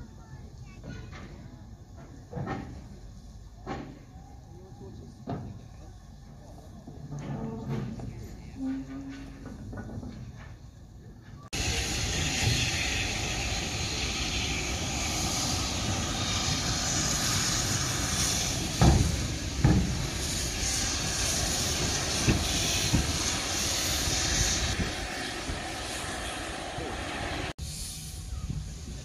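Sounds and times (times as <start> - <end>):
steam locomotive hissing: 0.0 - 29.0.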